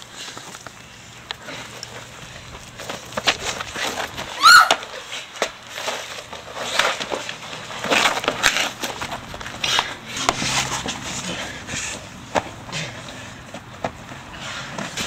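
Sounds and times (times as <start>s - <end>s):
people wrestling on ground: 0.0s - 15.0s.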